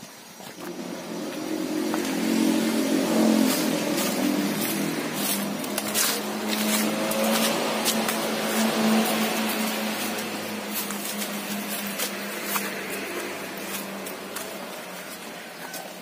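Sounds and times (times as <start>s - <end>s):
engine running: 0.2s - 16.0s
footsteps on leaves and gravel: 0.3s - 16.0s.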